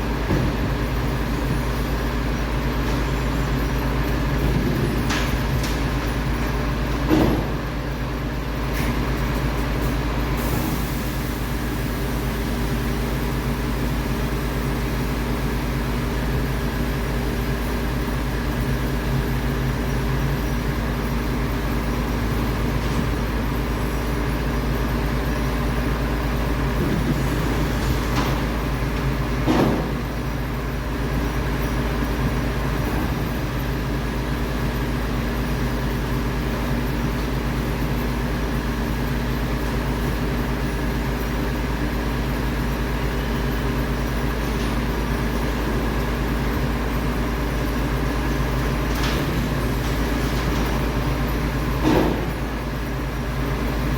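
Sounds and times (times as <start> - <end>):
garbage truck diesel engine running: 0.0 - 53.9.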